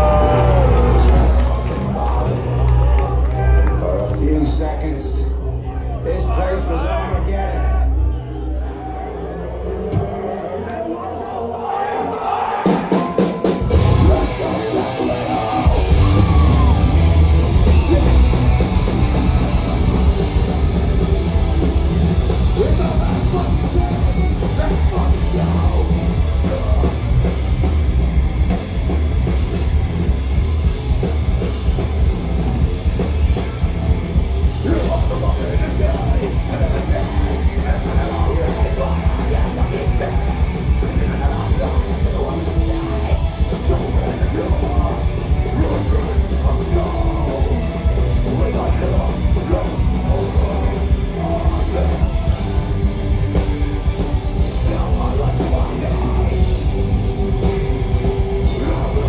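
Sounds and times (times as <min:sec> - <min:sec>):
pounding drum kit: 0:00.0 - 0:02.9, 0:12.4 - 0:59.0
distorted electric guitars: 0:00.0 - 0:06.6, 0:12.6 - 0:59.0.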